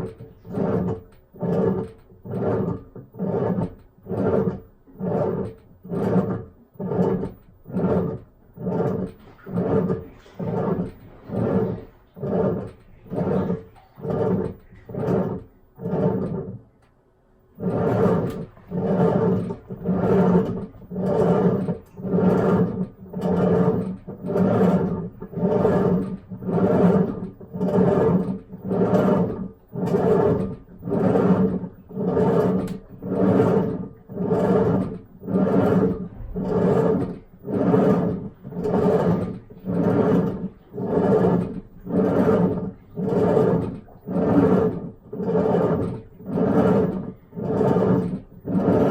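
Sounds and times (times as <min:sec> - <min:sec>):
washing machine groaning: 0:00.0 - 0:48.9.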